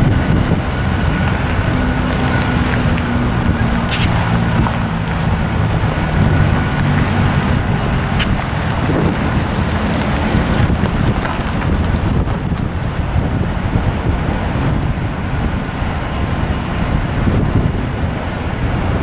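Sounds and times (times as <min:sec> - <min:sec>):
diesel locomotive engines droning: 0:00.0 - 0:19.0
train rumbling on rails: 0:00.0 - 0:19.0.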